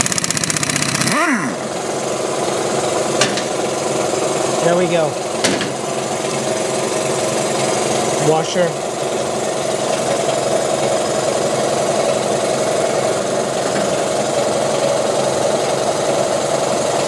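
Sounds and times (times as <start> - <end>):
mechanical motor drone: 0.0 - 17.0.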